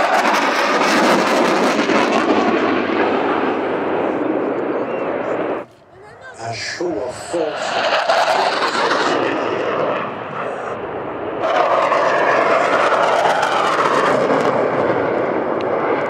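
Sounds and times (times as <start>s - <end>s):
jet afterburner roar: 0.0s - 16.0s
jet engine roar: 0.0s - 16.0s.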